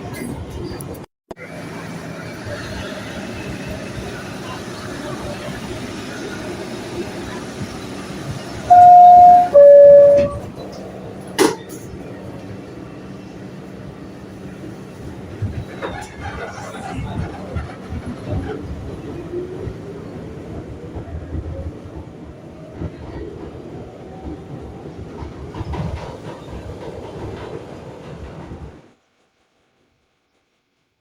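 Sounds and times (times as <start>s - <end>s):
subway train on track: 0.0s - 30.8s.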